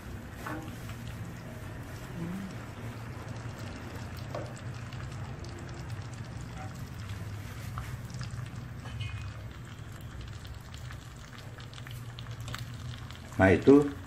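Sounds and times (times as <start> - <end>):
egg sizzling in a pan: 0.0 - 14.0.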